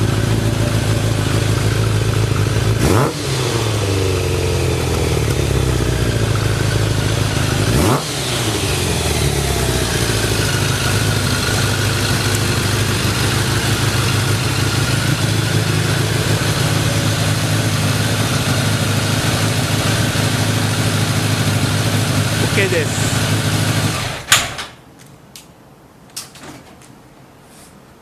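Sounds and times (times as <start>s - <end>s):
motorcycle engine idling: 0.0s - 24.4s
motorcycle throttle blips: 0.0s - 24.4s.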